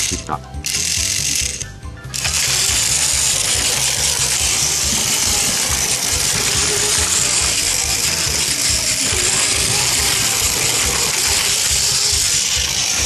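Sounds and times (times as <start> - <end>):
toy train clattering rattle: 0.0 - 13.0
toy train motor whirring: 0.0 - 13.0.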